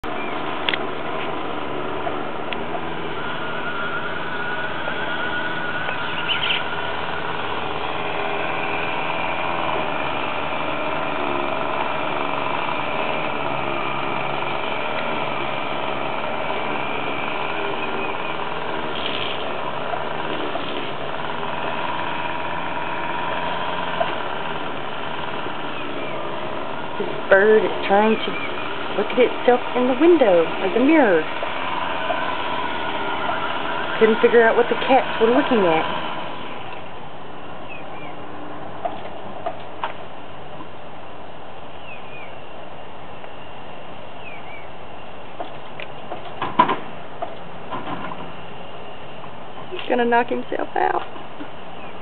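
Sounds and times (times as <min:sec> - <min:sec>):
lawn mower engine running: 0:00.0 - 0:52.0.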